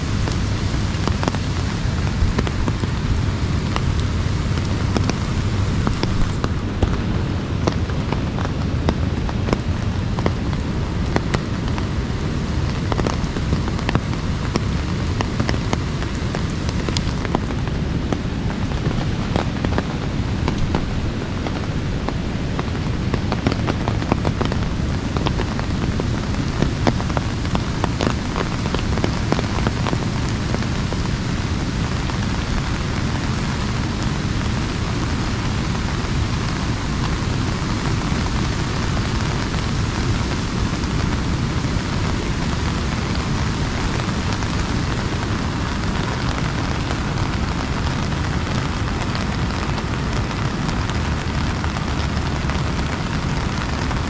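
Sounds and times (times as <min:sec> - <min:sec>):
rain pattering on an umbrella: 0:00.0 - 0:54.0.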